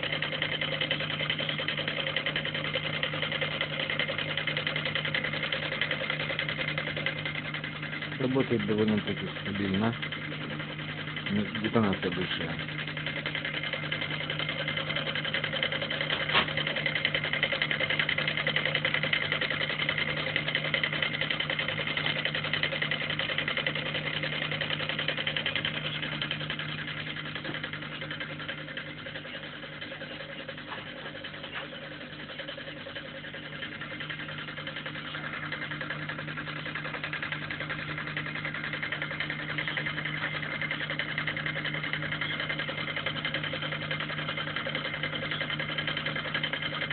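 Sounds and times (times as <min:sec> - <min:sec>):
solenoid engine clattering: 0:00.0 - 0:46.9.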